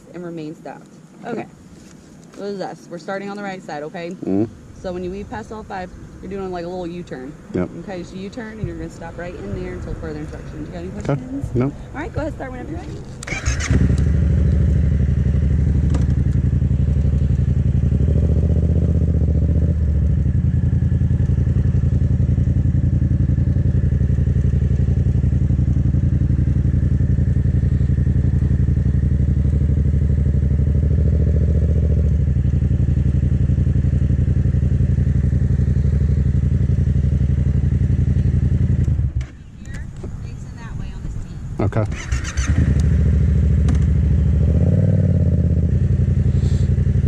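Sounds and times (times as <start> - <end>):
motorcycle engine at low revs: 7.1 - 47.0.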